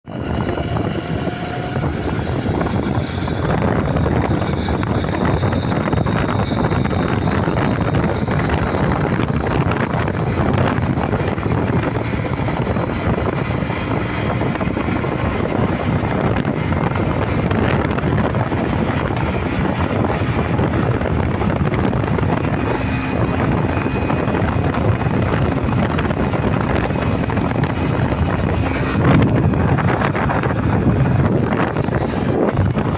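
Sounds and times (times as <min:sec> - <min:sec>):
wind rush on microphone: 0:00.0 - 0:32.9
motorcycle engine running: 0:00.1 - 0:32.9.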